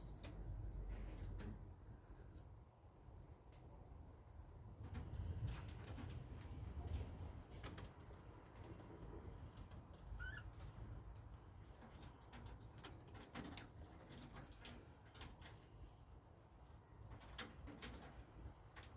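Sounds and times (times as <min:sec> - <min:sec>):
pet birds clicking and scratching: 0:00.0 - 0:01.6, 0:04.7 - 0:18.9.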